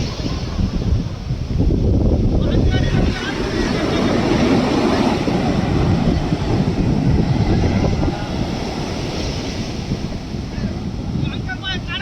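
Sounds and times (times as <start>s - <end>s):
ocean surf breaking on shore: 0.0s - 12.0s
wind buffeting the microphone: 0.0s - 12.0s.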